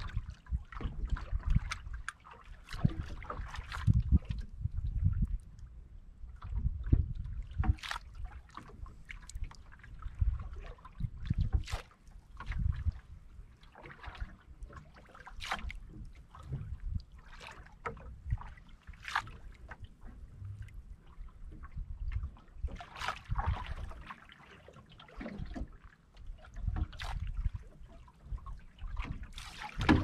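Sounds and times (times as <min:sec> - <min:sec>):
water slapping against boat hull: 0:00.0 - 0:05.7, 0:06.3 - 0:30.0
wind rumble on microphone: 0:00.0 - 0:24.1, 0:25.1 - 0:30.0.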